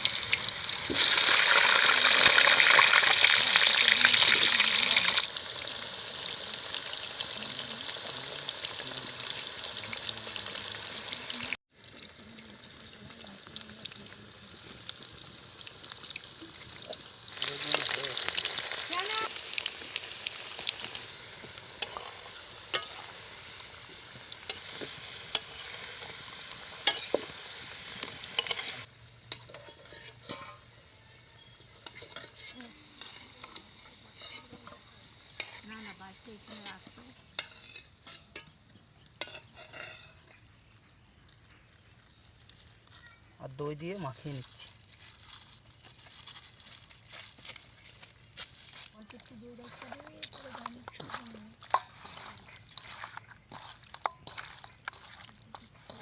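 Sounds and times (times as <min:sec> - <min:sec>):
potatoes sizzling in hot oil: 0:00.0 - 0:56.0.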